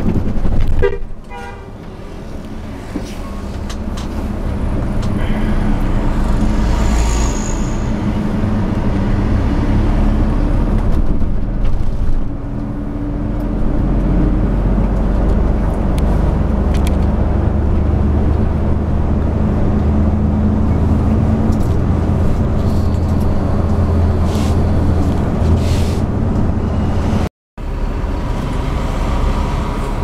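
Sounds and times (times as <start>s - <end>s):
bus engine drone: 0.0s - 30.0s
road noise: 0.0s - 30.0s.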